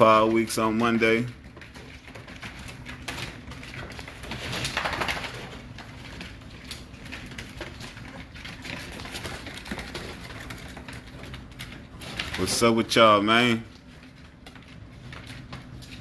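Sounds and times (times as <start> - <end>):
puppies scuffling: 0.0 - 16.0.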